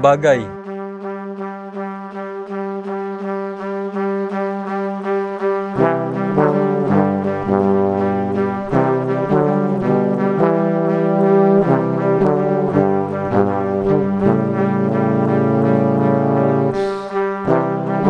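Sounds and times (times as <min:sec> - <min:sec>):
background music of held chords: 0:00.0 - 0:18.0.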